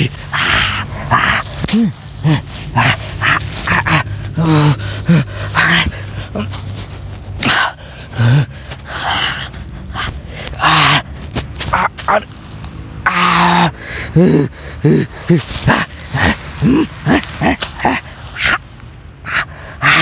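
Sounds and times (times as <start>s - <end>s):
gasping breaths: 0.0s - 11.1s, 13.4s - 18.6s, 19.2s - 20.0s
man groaning and whimpering: 0.0s - 12.3s, 13.0s - 18.6s, 19.3s - 20.0s.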